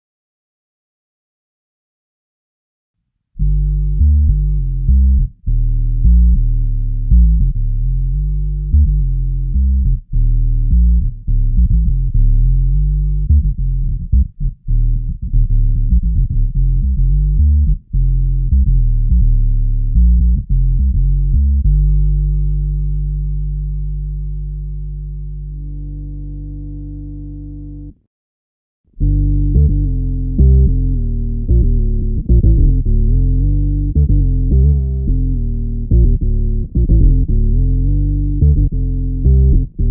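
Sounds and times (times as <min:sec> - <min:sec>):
electric bass with octave effect: 0:03.4 - 0:28.1, 0:28.9 - 0:39.9.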